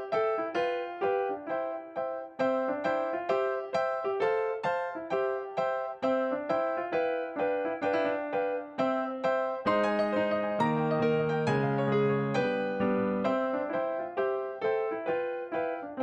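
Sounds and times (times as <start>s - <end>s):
bright piano melody: 0.0s - 16.0s.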